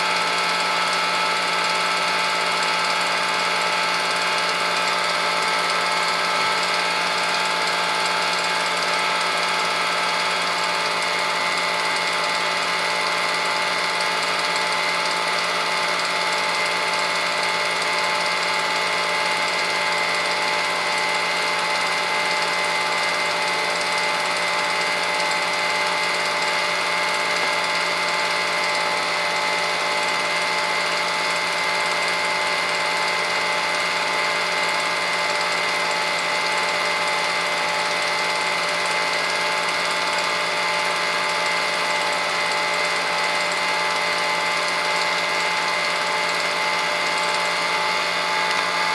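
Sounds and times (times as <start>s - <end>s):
film projector whirring: 0.0s - 48.9s.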